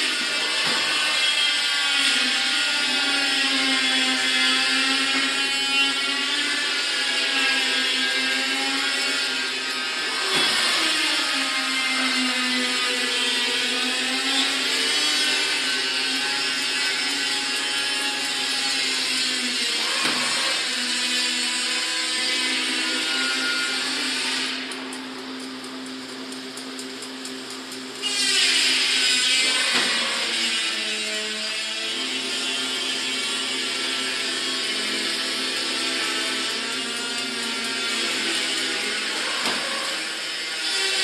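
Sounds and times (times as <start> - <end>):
machine motor whining: 0.0 - 41.0.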